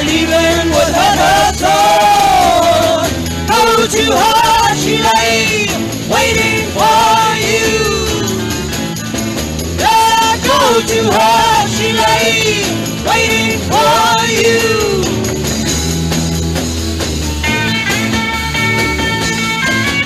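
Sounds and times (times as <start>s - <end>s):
bending lead guitar line: 0.0s - 20.0s
live rock band instrumental: 0.0s - 20.0s.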